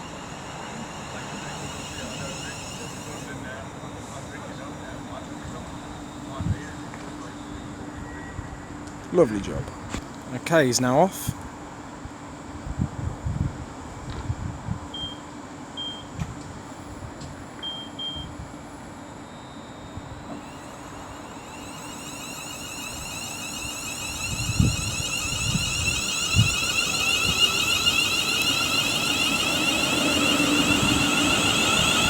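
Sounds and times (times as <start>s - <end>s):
electric train approaching whine: 0.0s - 32.0s.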